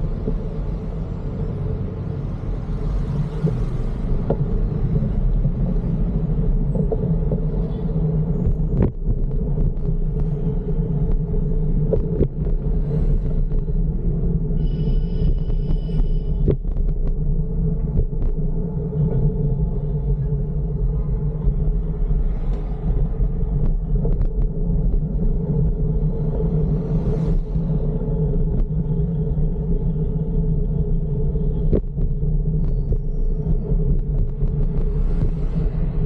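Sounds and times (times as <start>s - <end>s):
passing traffic: 0.0s - 36.0s
wind and road noise: 0.0s - 36.0s.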